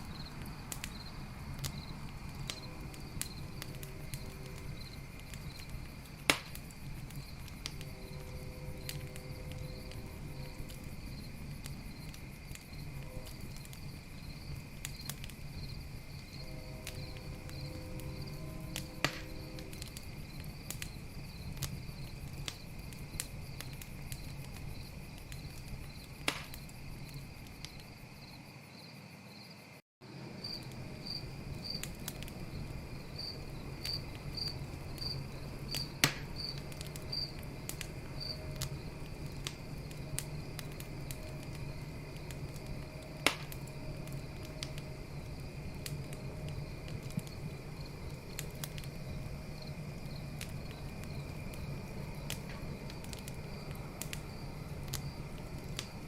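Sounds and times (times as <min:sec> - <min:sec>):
loud sharp pops from fire: 0:00.0 - 0:27.9, 0:30.5 - 0:49.0, 0:49.6 - 0:56.0
campfire crackling: 0:00.0 - 0:28.8, 0:30.0 - 0:56.0
low rumble of flames: 0:00.0 - 0:56.0
night insects chirping: 0:00.0 - 0:56.0.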